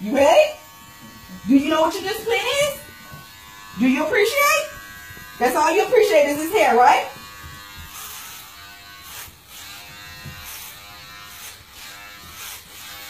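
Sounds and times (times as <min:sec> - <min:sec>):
electric hair clippers buzzing: 0:00.0 - 0:13.0
clipper blade rasping through hair: 0:00.7 - 0:13.0.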